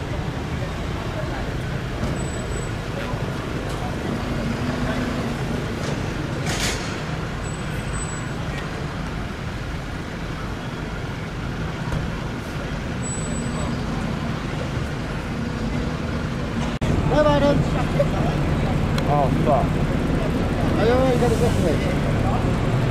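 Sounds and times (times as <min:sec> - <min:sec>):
street traffic noise: 0:00.0 - 0:22.9.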